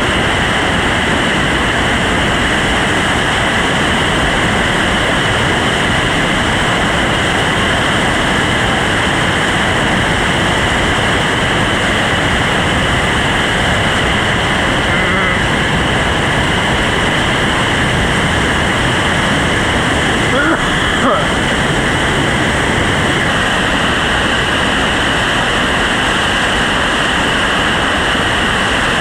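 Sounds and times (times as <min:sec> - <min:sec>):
whitewater rapids rushing: 0:00.0 - 0:29.0.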